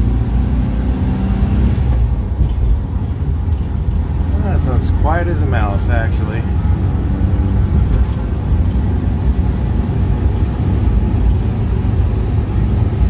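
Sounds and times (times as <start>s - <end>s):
pickup engine rumble: 0.0s - 13.0s.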